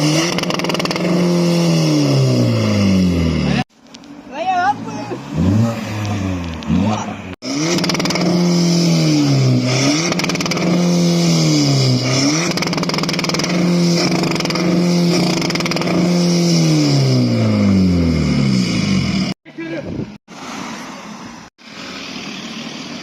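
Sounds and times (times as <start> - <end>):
car engine revving: 0.0 - 3.7, 4.6 - 19.4.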